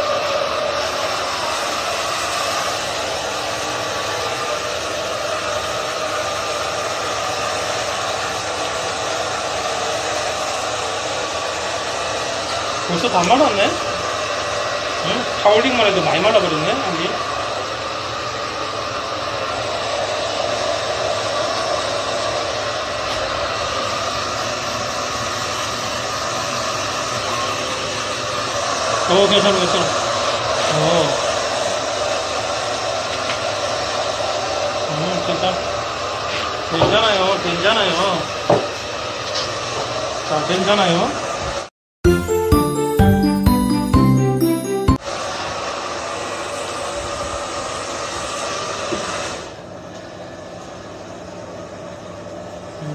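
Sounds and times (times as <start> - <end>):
hair dryer running: 0.0 - 42.8, 44.4 - 50.8.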